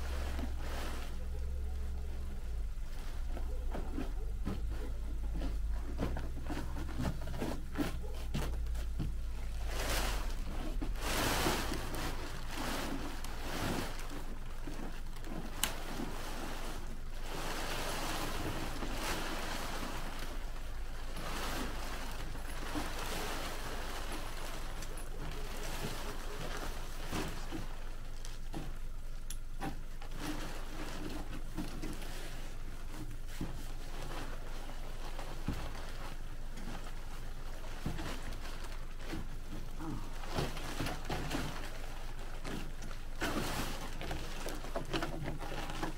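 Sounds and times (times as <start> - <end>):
tent fabric rustling: 0.0 - 45.9.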